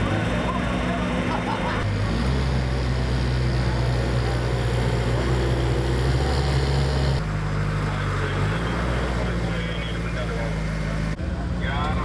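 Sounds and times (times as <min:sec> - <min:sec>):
loader engine droning: 0:00.0 - 0:12.0.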